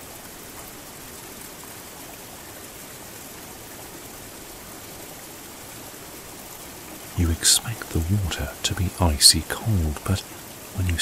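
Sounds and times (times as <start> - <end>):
stream pouring down: 0.0 - 11.0.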